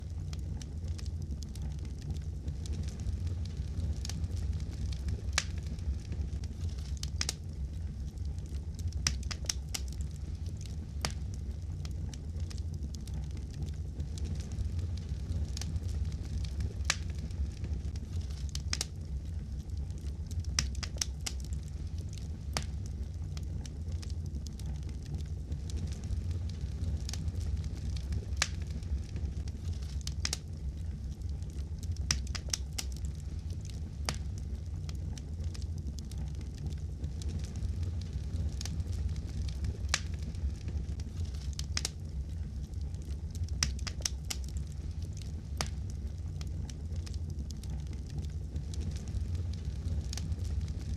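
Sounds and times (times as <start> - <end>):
low rumble of flames: 0.0 - 50.9
wood fire crackling and popping: 0.0 - 50.9.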